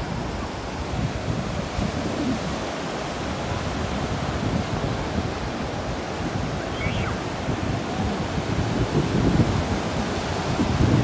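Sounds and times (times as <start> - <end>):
surf washing up beach: 0.0 - 11.0
wind buffeting microphone: 0.0 - 11.0.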